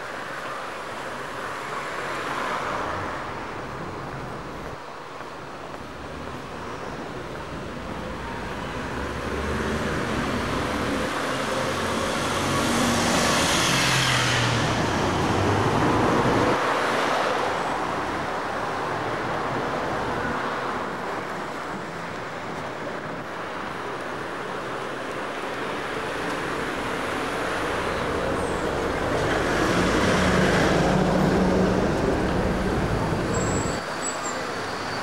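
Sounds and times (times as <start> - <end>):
road traffic: 0.0 - 35.0.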